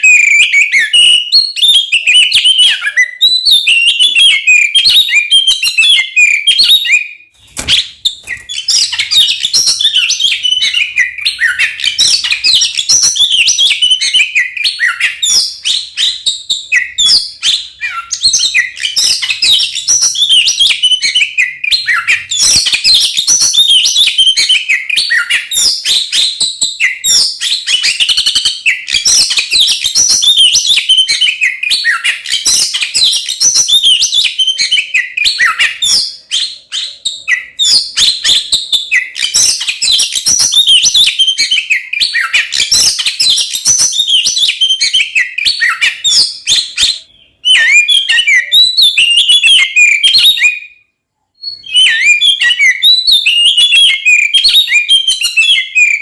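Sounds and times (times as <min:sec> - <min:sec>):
bird singing whistles and chirps: 0:00.0 - 0:50.8, 0:51.4 - 0:56.0.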